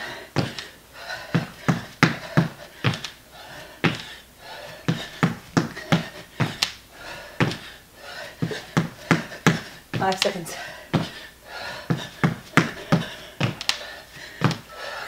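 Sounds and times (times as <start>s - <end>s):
feet thudding on floor: 0.0s - 0.7s, 1.3s - 6.8s, 7.4s - 7.8s, 8.4s - 14.8s.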